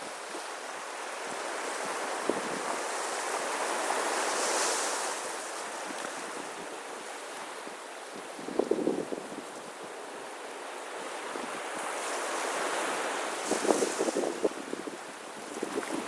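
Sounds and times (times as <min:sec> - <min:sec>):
waves washing on beach: 0:00.0 - 0:16.0.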